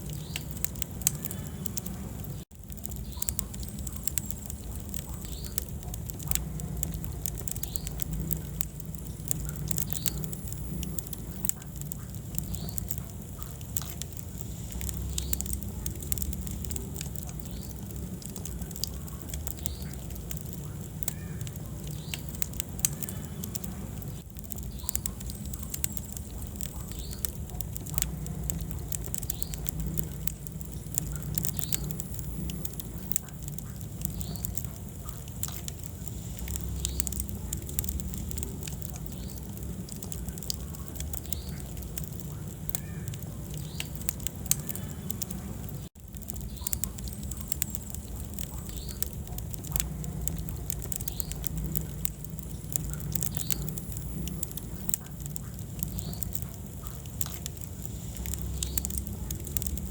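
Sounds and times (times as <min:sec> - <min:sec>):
low rumble of flame: 0:00.0 - 0:59.9
wood fire crackling: 0:00.0 - 0:59.9.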